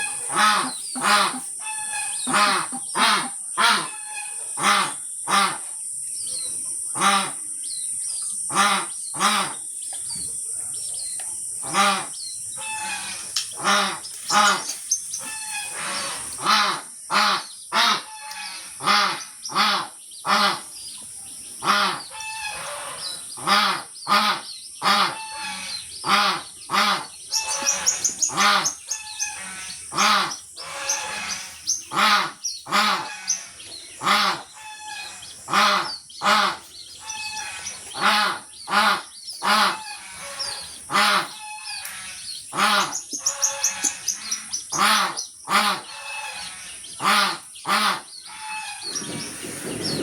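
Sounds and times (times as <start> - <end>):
bird honking: 0.0 - 5.6, 11.7 - 20.7, 21.6 - 50.0
steady high-pitched hiss: 0.0 - 50.0.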